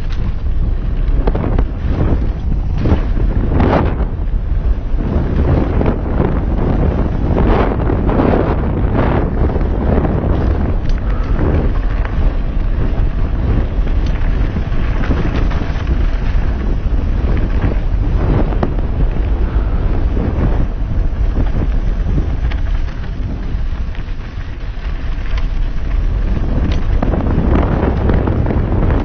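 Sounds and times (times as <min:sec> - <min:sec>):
bike rattling over bumps: 0:00.0 - 0:29.0
tyres on rough dirt trail: 0:00.0 - 0:29.0
wind buffeting microphone: 0:00.0 - 0:29.0.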